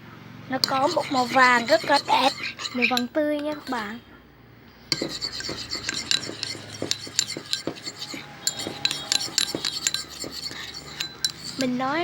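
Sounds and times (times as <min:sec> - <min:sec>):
stirrer scraping a container: 0:00.6 - 0:04.0, 0:04.9 - 0:12.0.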